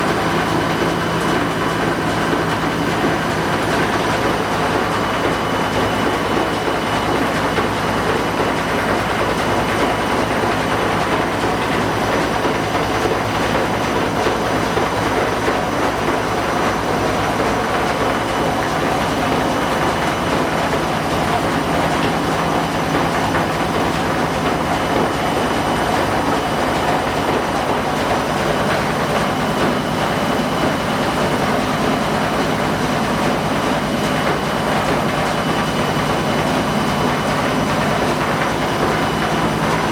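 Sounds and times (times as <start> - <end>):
washing machine spin rumble: 0.0 - 39.9.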